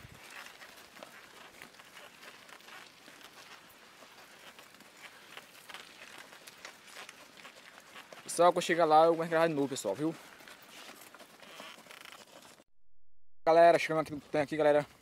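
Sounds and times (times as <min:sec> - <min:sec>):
cattle hoof steps: 0:00.0 - 0:12.6
footsteps on dirt road: 0:00.0 - 0:12.6.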